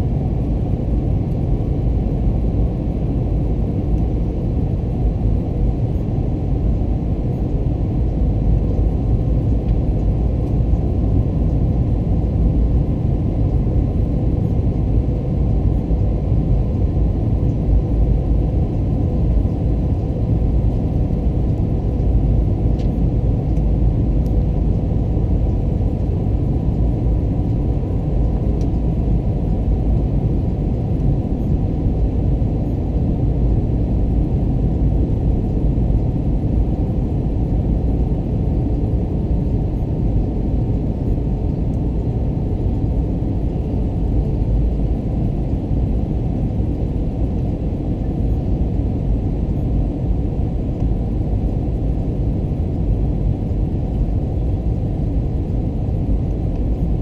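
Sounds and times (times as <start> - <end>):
airplane engine and airflow rumble: 0.0 - 57.0.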